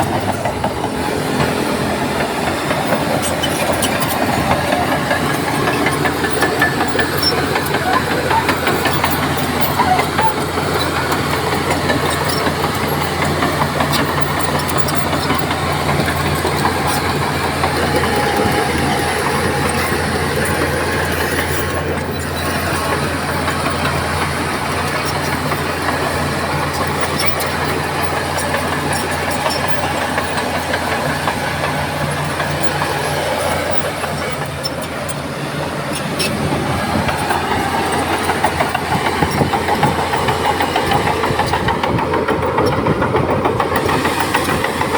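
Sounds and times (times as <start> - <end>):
heavy diesel engine under load: 0.0 - 44.9.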